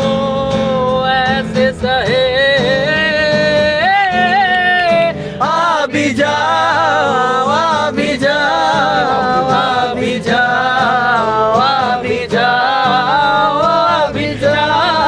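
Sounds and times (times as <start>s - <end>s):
man singing slow melody: 0.0s - 15.0s
strummed acoustic guitar: 0.0s - 15.0s.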